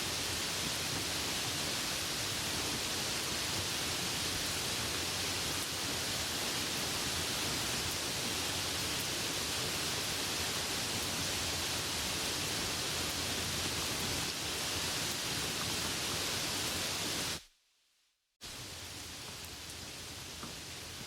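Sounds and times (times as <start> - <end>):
rain hissing: 0.0 - 17.5, 18.4 - 21.0.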